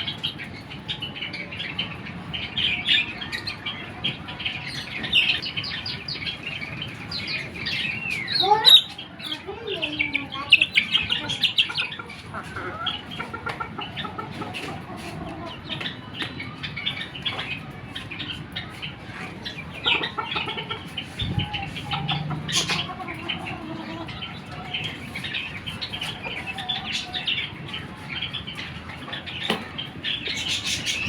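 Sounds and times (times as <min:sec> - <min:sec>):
chickens clucking and chirping: 0:00.0 - 0:31.0.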